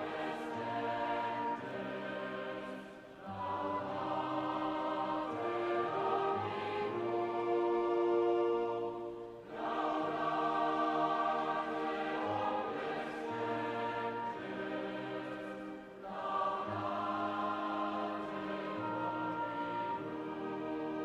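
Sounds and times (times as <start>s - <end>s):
choir singing sustained chords: 0.0s - 21.0s
instrumental accompaniment: 0.0s - 21.0s.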